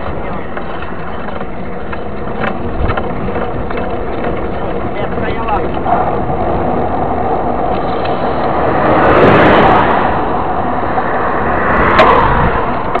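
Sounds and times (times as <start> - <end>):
road noise: 0.0 - 13.0
wind rush: 0.0 - 13.0
truck passing whoosh: 2.1 - 13.0.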